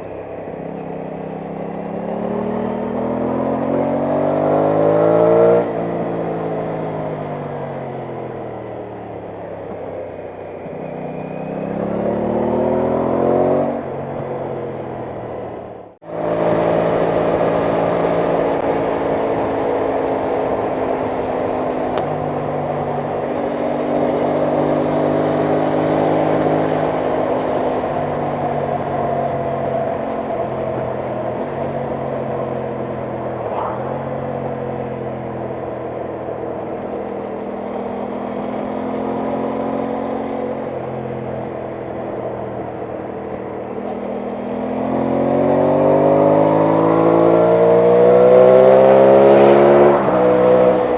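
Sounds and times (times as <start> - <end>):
motorcycle engine cruising: 0.0 - 50.9.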